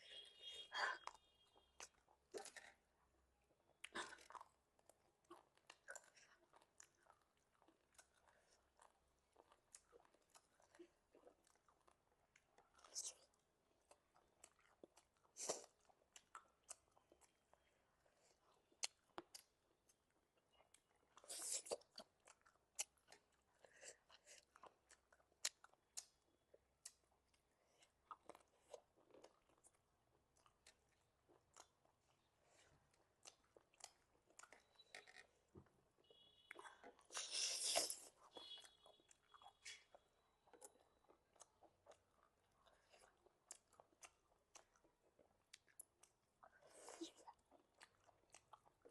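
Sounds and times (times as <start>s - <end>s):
person chewing food: 1.0s - 48.9s.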